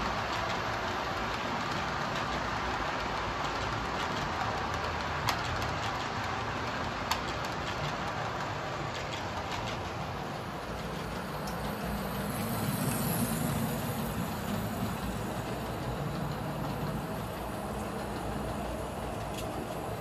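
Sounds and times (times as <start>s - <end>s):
model train wheels rattling on rails: 0.0s - 20.0s.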